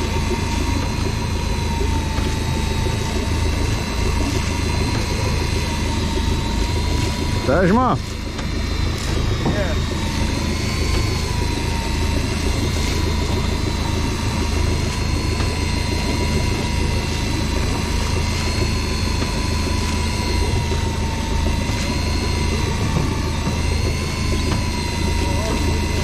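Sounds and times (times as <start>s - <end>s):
boat engine rumbling: 0.0s - 26.0s
faint wavering whine: 0.0s - 26.0s.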